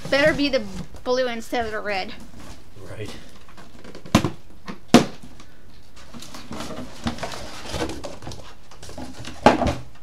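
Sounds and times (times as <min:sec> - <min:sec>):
cardboard and plastic bag rustling: 0:00.0 - 0:04.4, 0:05.2 - 0:10.0.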